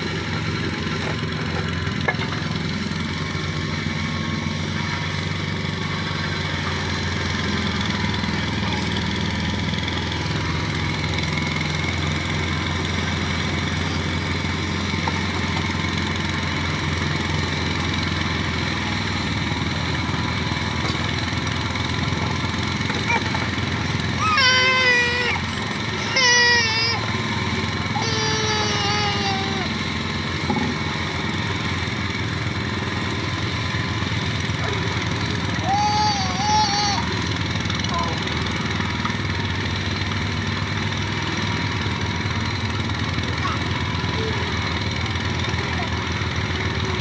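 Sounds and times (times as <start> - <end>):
engine humming steadily: 0.0 - 47.0.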